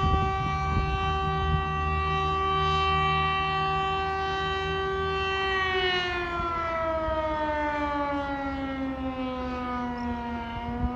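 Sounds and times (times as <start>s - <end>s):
air-raid siren winding down: 0.0s - 10.9s.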